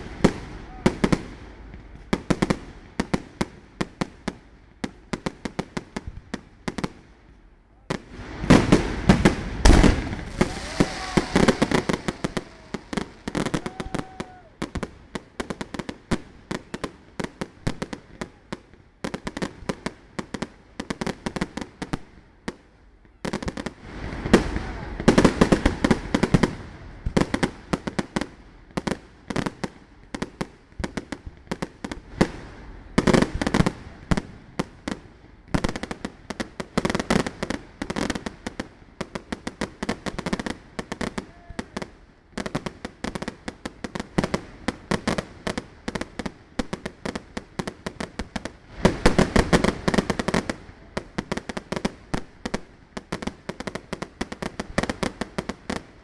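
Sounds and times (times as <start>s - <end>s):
fireworks bursts and pops: 0.0s - 56.0s.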